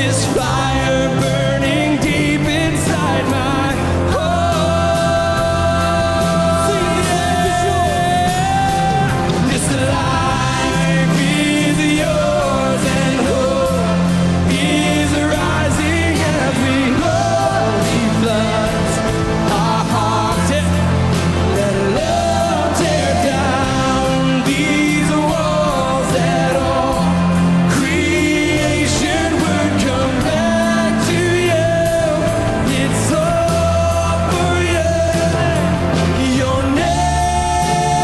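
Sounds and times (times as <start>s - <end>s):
live worship band playing: 0.0s - 38.0s
person singing: 0.0s - 38.0s.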